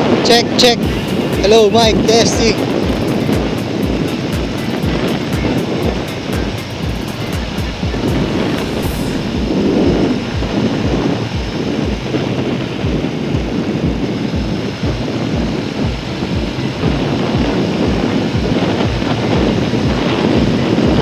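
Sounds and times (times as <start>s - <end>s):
wind buffeting camera microphone: 0.0s - 21.0s.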